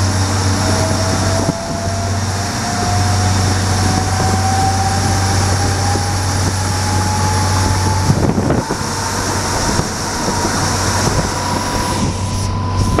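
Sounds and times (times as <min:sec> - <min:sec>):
low hum: 0:00.0 - 0:13.0
thin rising whine: 0:00.0 - 0:13.0
train wheels rumbling on rails: 0:00.0 - 0:13.0.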